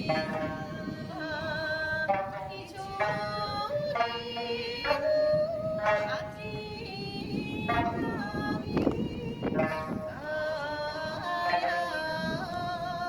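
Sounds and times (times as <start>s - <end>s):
plucked string ensemble playing: 0.0s - 10.6s, 11.3s - 12.2s
person singing long wavering notes: 0.0s - 13.0s.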